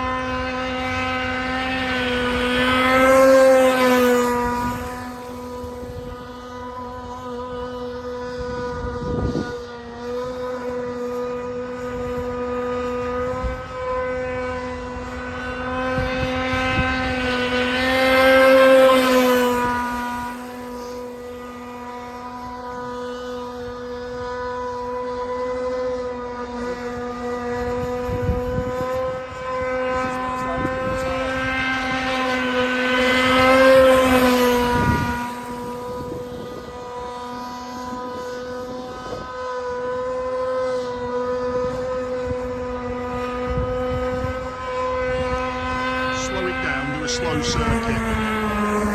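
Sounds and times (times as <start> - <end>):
model boat engine at high revs: 0.0 - 48.9.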